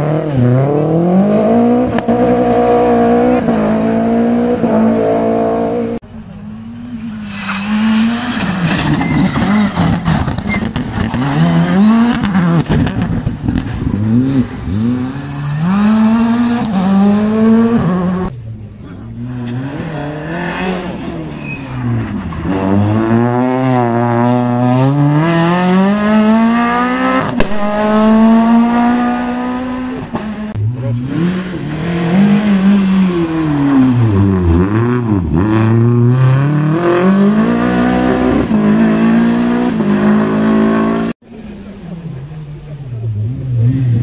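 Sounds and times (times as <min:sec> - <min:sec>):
rally car engine revving: 0:00.0 - 0:44.0.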